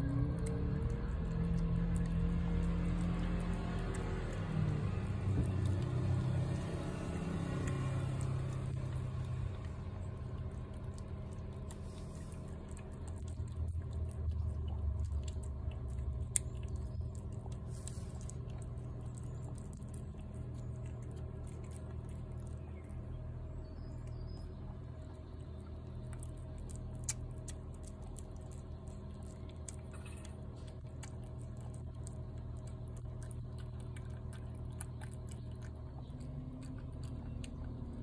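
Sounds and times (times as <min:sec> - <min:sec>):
cat chewing and licking food: 0:00.0 - 0:38.0
passing motor traffic rumble: 0:00.0 - 0:38.0.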